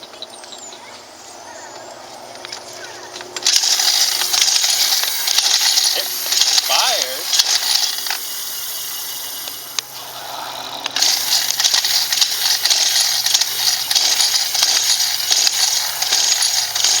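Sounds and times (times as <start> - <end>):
metallic rattling and clicking: 3.2 - 17.0.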